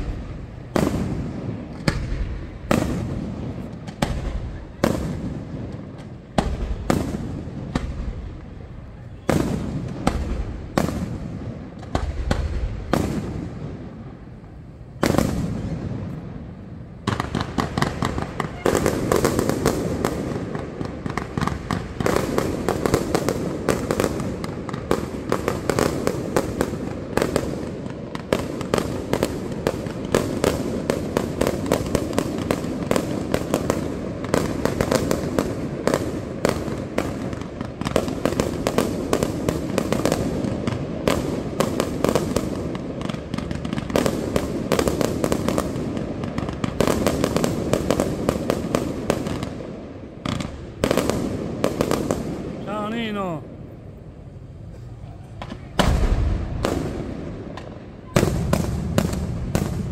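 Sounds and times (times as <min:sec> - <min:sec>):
fireworks bursts and crackling: 0:00.0 - 0:59.9.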